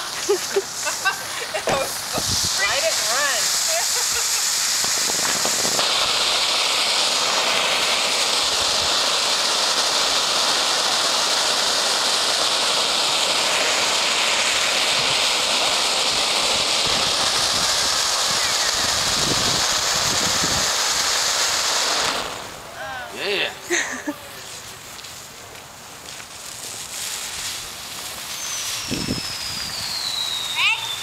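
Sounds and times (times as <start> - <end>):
fountain firework hissing: 0.0 - 31.0.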